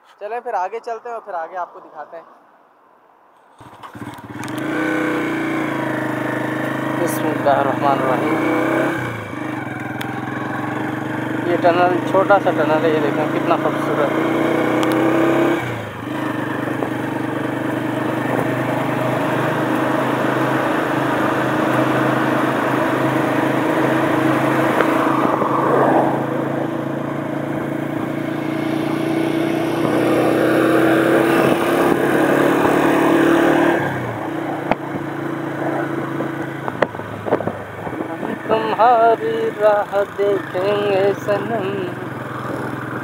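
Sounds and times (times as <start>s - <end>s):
wind and road noise: 0.0s - 43.0s
motorcycle engine running: 3.6s - 43.0s.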